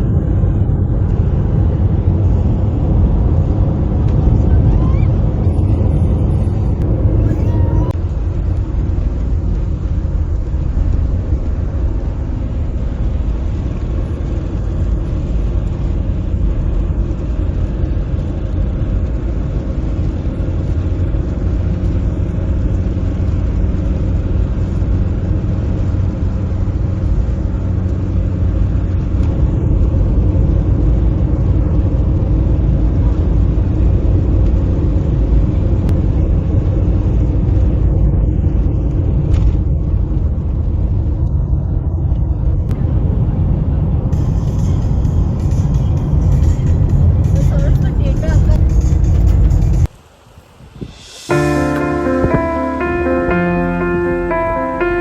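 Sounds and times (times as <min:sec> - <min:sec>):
car driving on highway: 0:00.0 - 0:54.2.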